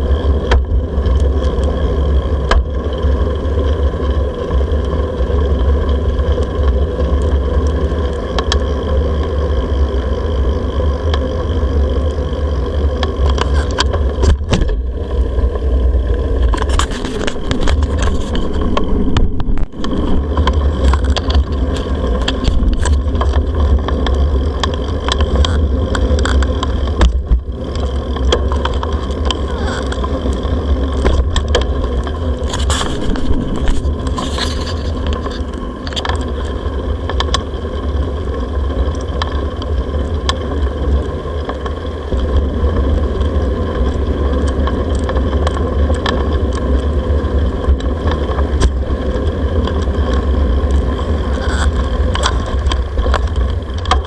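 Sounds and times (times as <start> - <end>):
bicycle rolling on pavement: 0.0 - 54.0.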